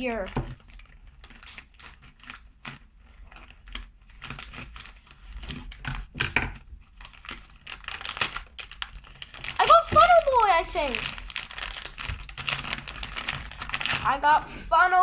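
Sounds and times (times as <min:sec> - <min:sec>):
packaging crinkling and rustling: 0:00.0 - 0:14.3.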